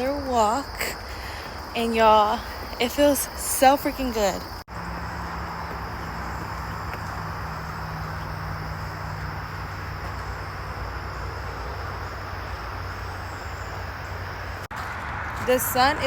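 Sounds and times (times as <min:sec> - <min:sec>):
high insect drone: 0:00.0 - 0:14.7.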